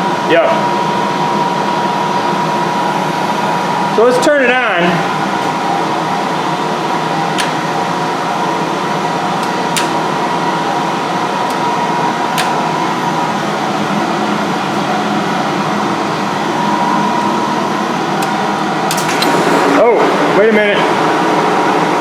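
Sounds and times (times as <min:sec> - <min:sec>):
lathe whirring: 0:00.0 - 0:22.0
thin steady whine: 0:00.0 - 0:22.0.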